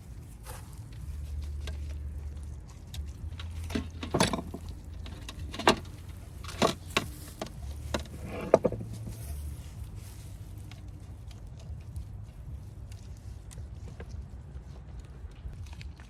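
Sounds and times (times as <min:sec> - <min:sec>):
eating crunches and clicks: 0:00.0 - 0:08.1, 0:09.7 - 0:16.0
steady low hum: 0:00.0 - 0:16.0.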